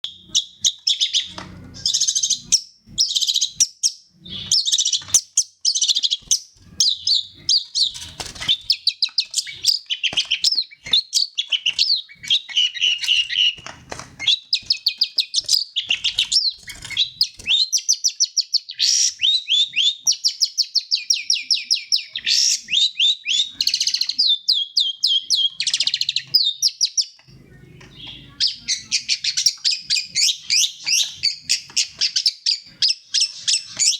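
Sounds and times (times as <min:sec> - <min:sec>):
shrike singing varied song: 0:00.0 - 0:33.9.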